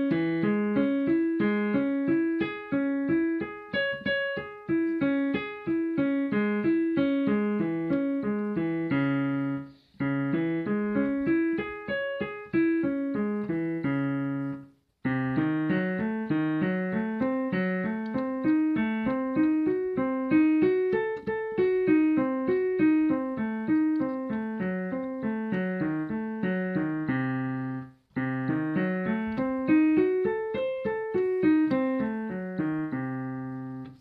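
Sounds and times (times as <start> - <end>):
piano arpeggios: 0.0 - 34.0.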